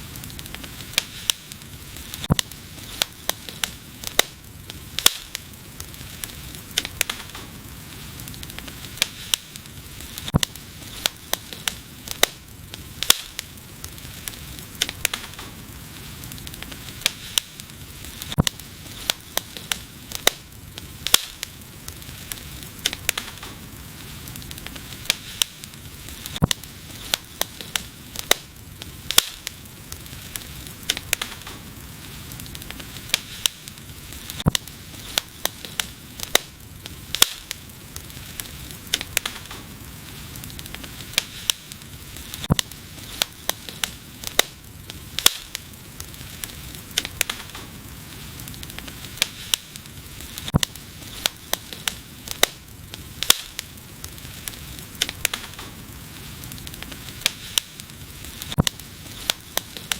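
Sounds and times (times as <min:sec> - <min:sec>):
soft hiss of burning: 0:00.0 - 0:59.9
wood fire crackling: 0:00.0 - 0:59.9.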